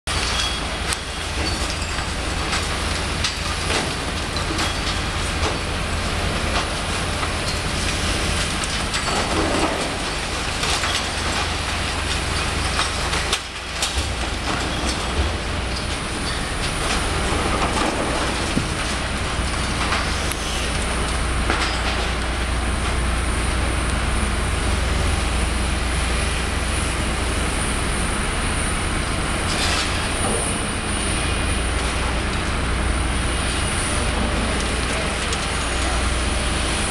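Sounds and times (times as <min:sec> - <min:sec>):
excavator running: 0:00.1 - 0:36.9.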